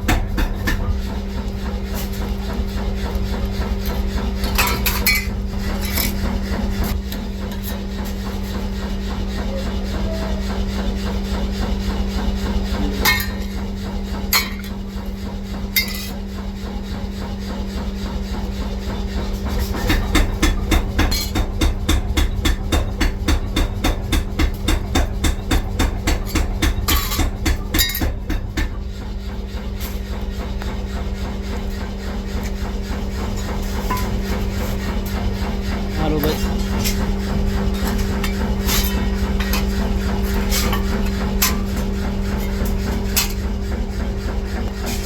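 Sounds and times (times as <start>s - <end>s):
machinery hum: 0.0s - 45.0s.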